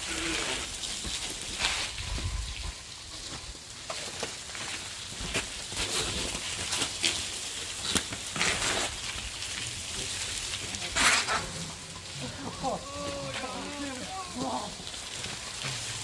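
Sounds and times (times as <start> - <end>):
bike tyres skidding on dirt: 0.0 - 16.0.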